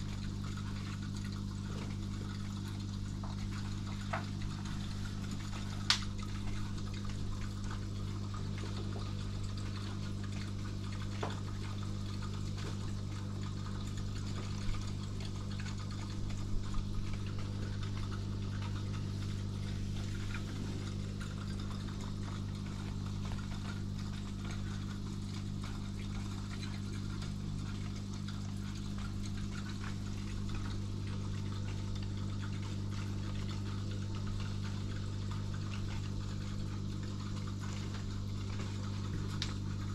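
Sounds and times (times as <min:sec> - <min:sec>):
aquarium pump humming: 0:00.0 - 0:39.9
water trickling: 0:00.0 - 0:39.9.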